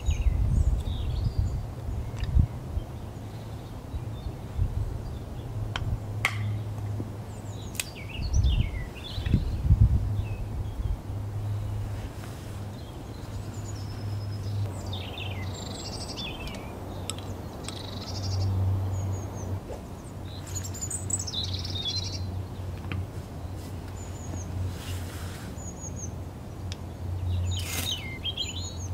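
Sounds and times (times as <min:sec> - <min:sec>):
songbirds chirping and trilling: 0:00.0 - 0:28.9.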